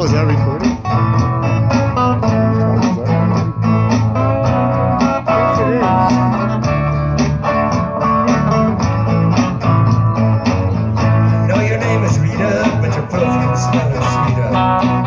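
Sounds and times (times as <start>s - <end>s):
bass line: 0.0s - 15.0s
guitar: 0.0s - 15.0s.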